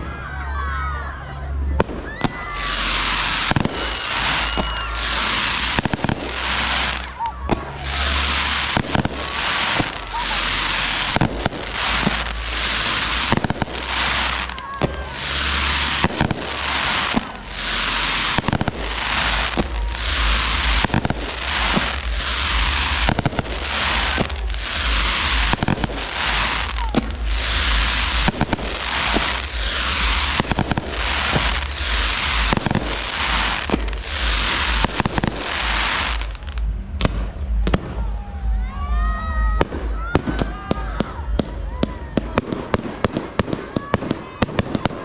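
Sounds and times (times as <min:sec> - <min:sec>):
fireworks launching and bursting: 0:01.7 - 0:45.0.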